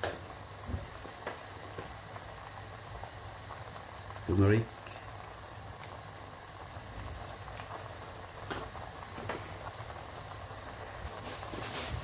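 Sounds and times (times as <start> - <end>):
onion paste sizzling in oil: 0.0 - 12.0.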